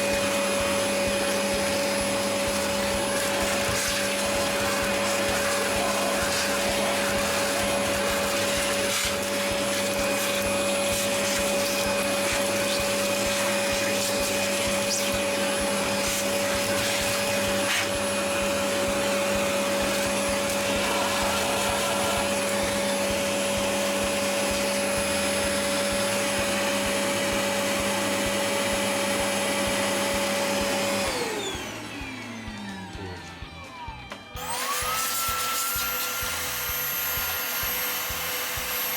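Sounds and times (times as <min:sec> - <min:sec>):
vacuum cleaner running: 0:00.0 - 0:38.9
vacuum motor winding down: 0:00.0 - 0:38.9.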